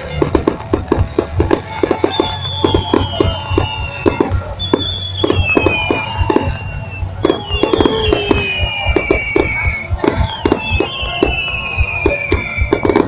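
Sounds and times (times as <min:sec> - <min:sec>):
fireworks bangs: 0:00.0 - 0:13.0
fireworks whistles falling in pitch: 0:00.0 - 0:13.0.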